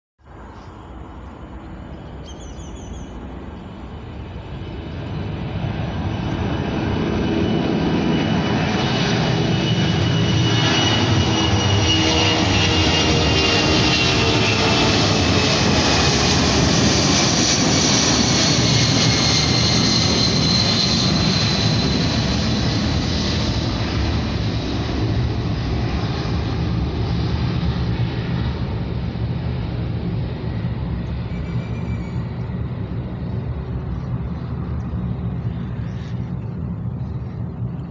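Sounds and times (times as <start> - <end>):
jet engine roar: 0.3 - 37.9.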